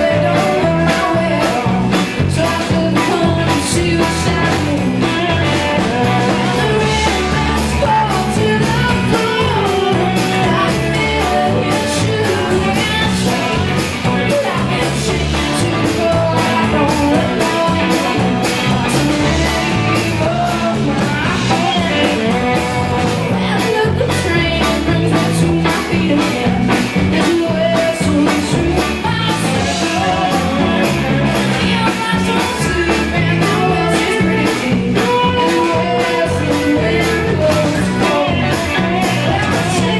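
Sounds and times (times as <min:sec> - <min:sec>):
bass guitar: 0:00.0 - 0:39.9
electric guitars: 0:00.0 - 0:39.9
steady drum beat: 0:00.0 - 0:39.9
woman singing: 0:00.0 - 0:39.9.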